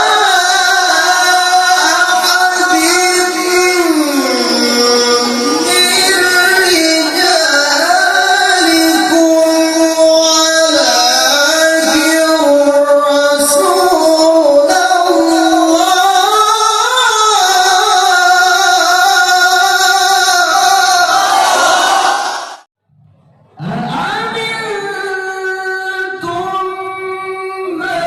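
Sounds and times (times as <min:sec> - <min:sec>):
man's melodic recitation: 0:00.0 - 0:21.2, 0:23.6 - 0:28.0.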